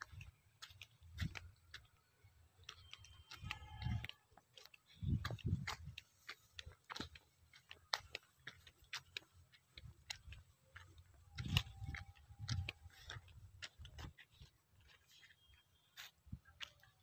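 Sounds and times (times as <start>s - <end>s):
footsteps on crumbly soil: 0.0s - 17.0s.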